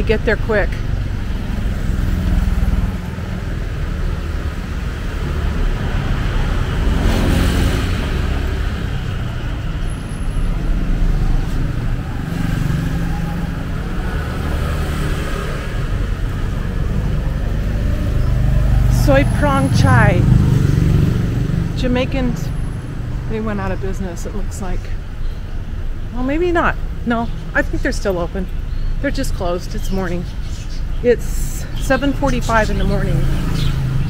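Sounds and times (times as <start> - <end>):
car and motorcycle engines rumbling: 0.0 - 34.0.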